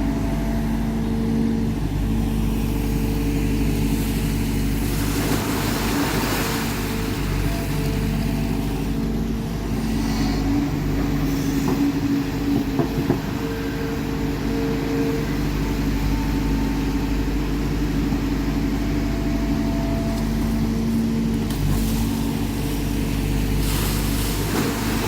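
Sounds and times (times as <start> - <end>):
diesel machinery engine hum: 0.0 - 25.0.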